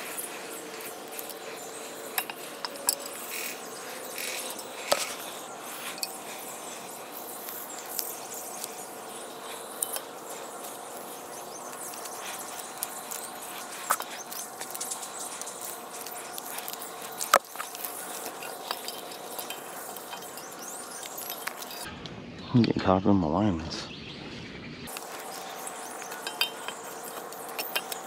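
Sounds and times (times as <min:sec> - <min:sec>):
faint steady hum: 0:00.0 - 0:22.5.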